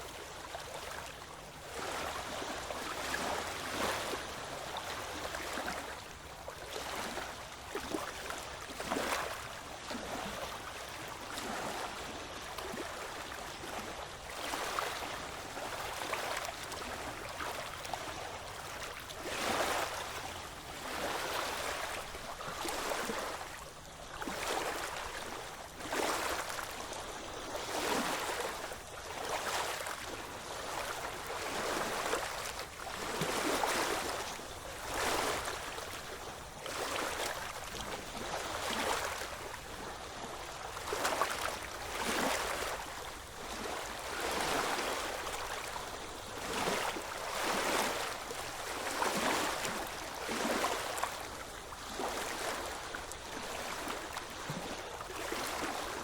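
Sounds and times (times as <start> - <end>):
small waves lapping on shore: 0.0 - 56.0.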